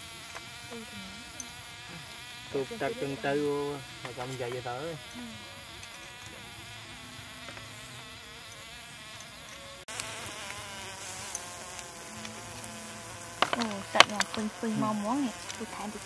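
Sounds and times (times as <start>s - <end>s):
flying insects buzzing: 0.0s - 16.0s.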